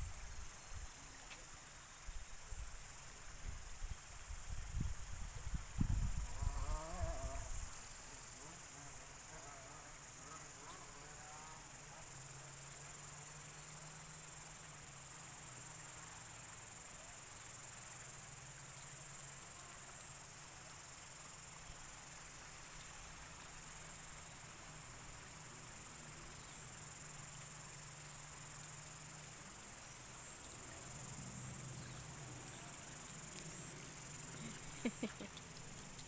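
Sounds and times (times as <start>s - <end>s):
insects droning in chorus: 0.0s - 36.0s.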